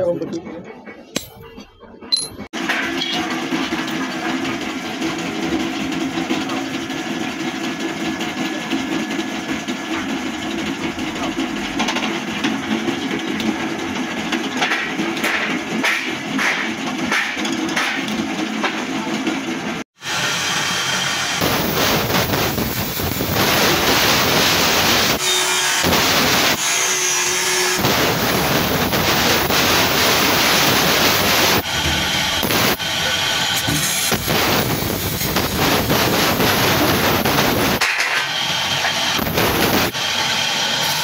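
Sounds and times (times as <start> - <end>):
power tools working metal: 1.2 - 41.0.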